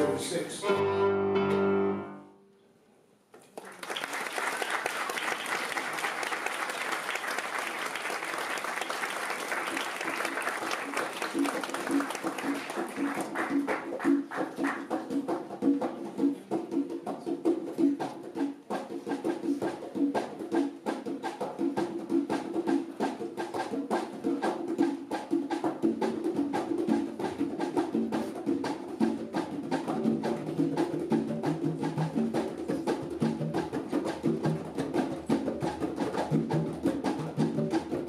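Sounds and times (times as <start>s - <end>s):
congas played by hand: 0.0s - 2.1s, 4.4s - 38.0s.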